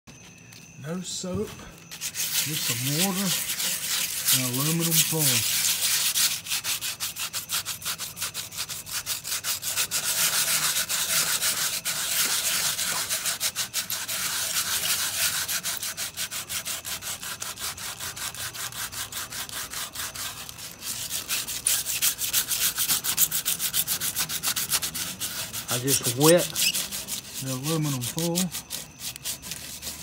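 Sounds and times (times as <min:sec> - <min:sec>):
foil scrubbing chrome: 0:00.2 - 0:30.0.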